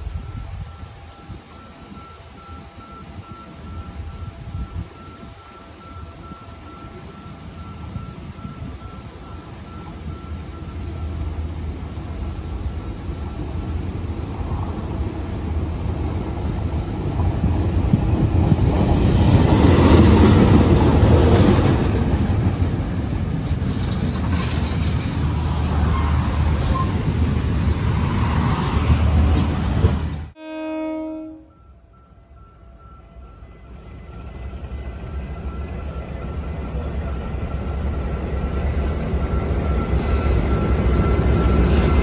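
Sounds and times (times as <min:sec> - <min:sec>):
diesel locomotive passing: 0:00.0 - 0:42.0.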